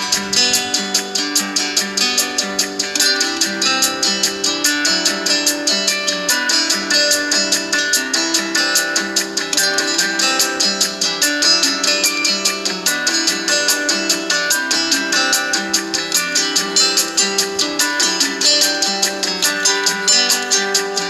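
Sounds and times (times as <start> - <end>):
plucked string instrument strumming: 0.0 - 21.0.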